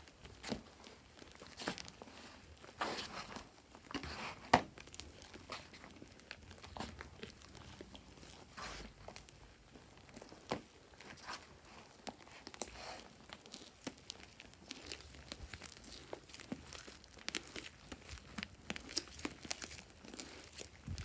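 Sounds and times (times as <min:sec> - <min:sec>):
slime crackling while kneaded: 0:00.0 - 0:21.0.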